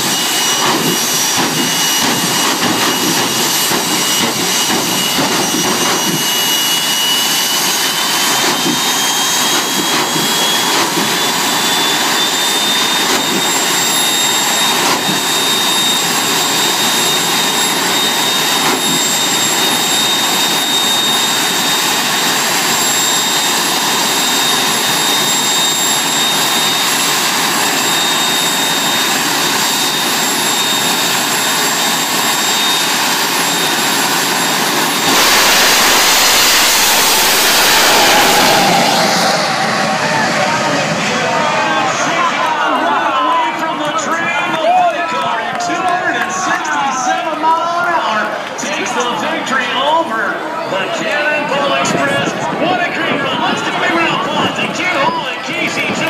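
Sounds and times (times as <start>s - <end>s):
high turbine whine: 0.0s - 56.0s
jet engine roar and hiss: 0.0s - 56.0s.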